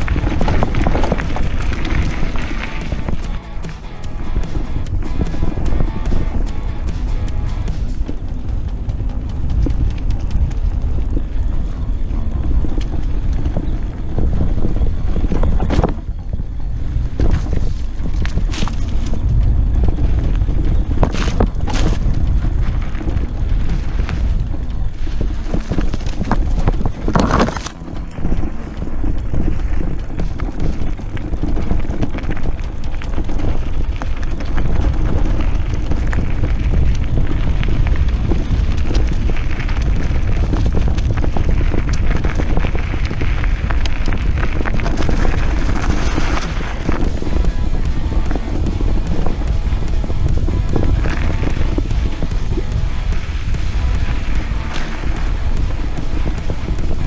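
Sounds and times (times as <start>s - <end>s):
bike rattling clicks and knocks: 0.0s - 57.0s
tyres rolling on gravel trail: 0.0s - 57.0s
wind buffeting microphone: 0.0s - 57.0s.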